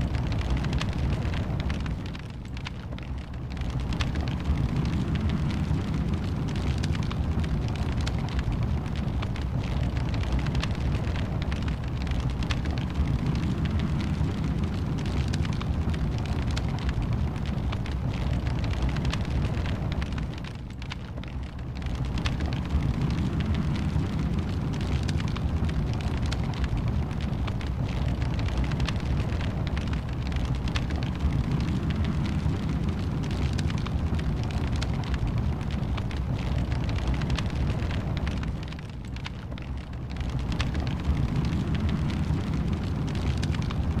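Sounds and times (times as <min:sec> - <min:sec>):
fire crackling and popping: 0:00.0 - 0:44.0
wood fire flames rumbling: 0:00.0 - 0:44.0.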